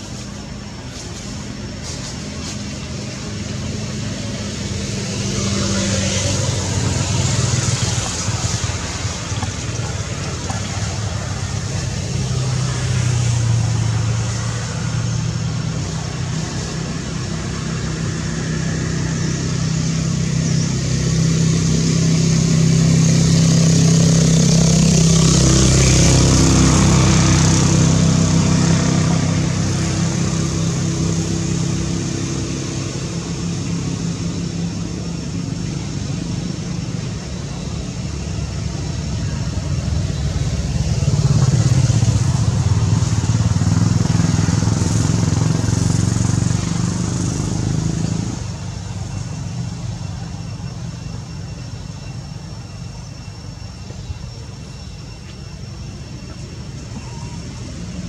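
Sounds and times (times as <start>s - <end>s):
vehicle engine humming: 0.0s - 58.0s.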